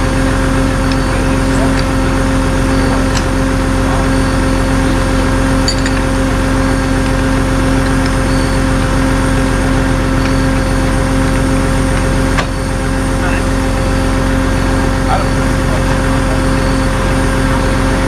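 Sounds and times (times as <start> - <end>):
engine running steadily: 0.0 - 18.0
steady pitched hum: 0.0 - 18.0.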